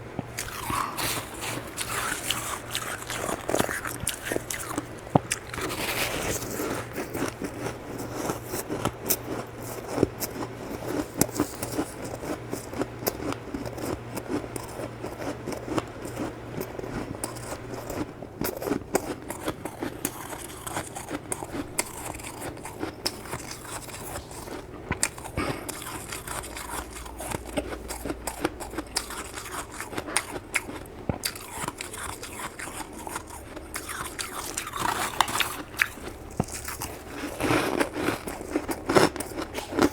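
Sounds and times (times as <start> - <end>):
frost being crunched and chewed: 0.3 - 39.9.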